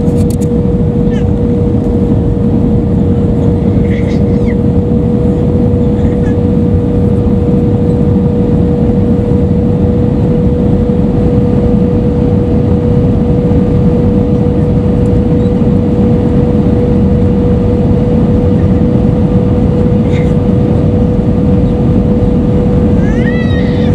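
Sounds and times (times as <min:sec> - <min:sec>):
airplane cabin airflow and jet noise: 0:00.0 - 0:23.9
constant hum tone: 0:00.0 - 0:23.9.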